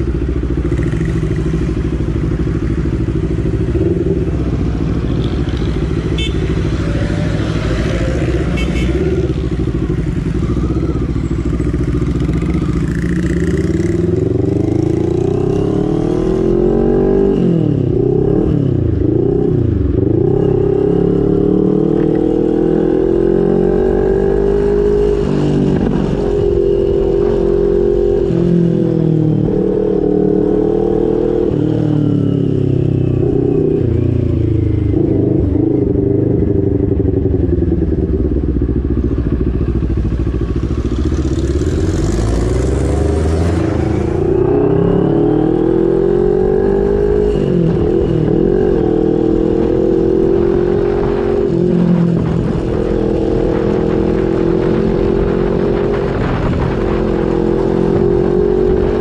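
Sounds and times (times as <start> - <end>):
motorcycle engine exhaust: 0.0 - 21.4, 31.0 - 59.0.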